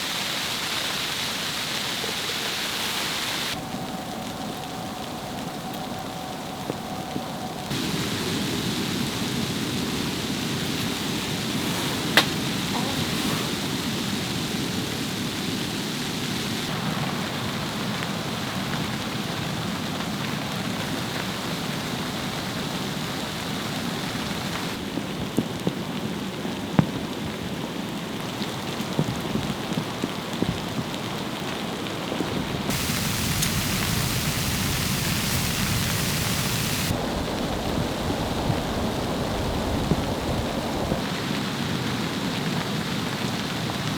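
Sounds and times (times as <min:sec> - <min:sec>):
snowstorm noise: 0:00.0 - 0:43.9.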